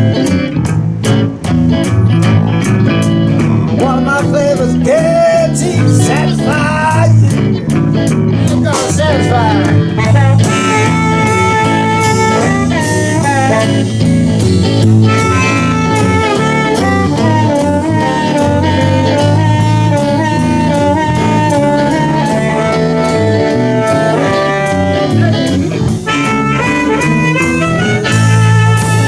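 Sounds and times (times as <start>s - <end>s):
blues band playing: 0.0s - 29.0s
saxophone lead: 0.0s - 29.0s.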